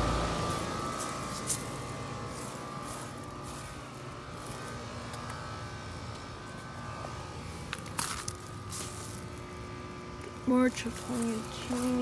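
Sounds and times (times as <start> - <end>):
heat pump humming: 0.0 - 12.0.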